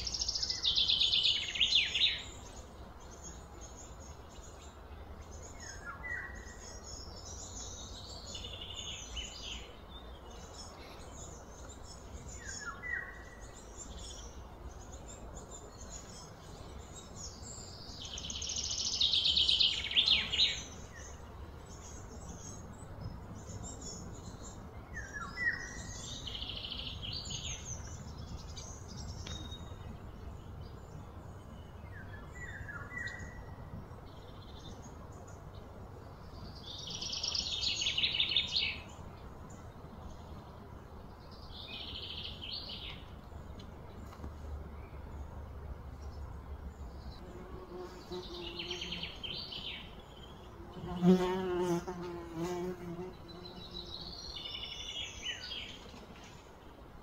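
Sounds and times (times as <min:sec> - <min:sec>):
steady low background noise: 0:00.0 - 0:57.0.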